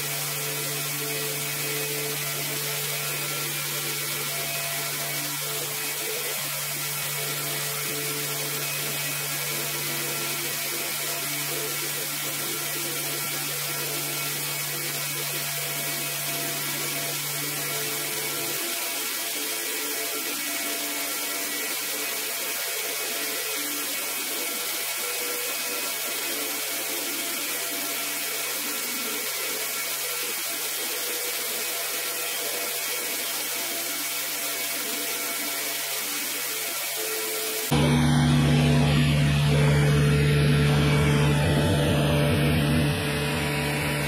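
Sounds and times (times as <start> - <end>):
water spraying with hiss: 0.0 - 37.7
cleaning machine motor running: 0.0 - 44.0.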